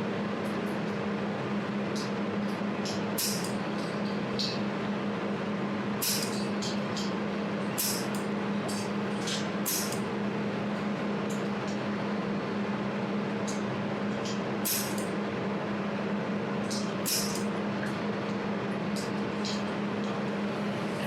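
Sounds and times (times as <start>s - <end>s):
welding machine cooling hum: 0.0s - 21.0s.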